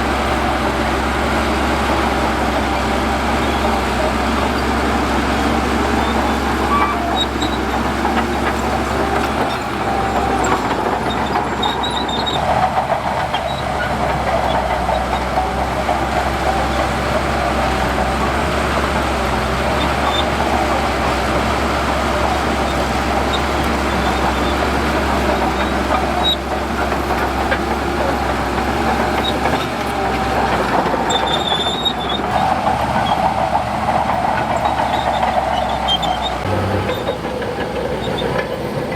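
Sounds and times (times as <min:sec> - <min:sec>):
diesel machinery engine rumble: 0:00.0 - 0:38.9
machinery clanking: 0:00.0 - 0:38.9.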